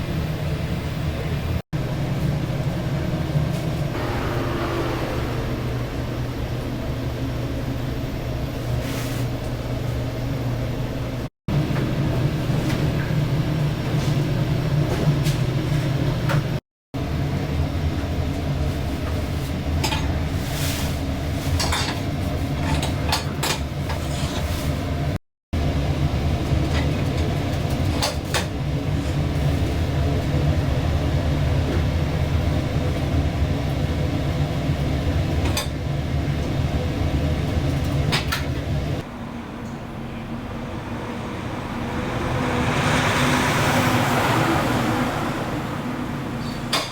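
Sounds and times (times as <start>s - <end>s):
low mechanical hum: 0.0s - 42.4s.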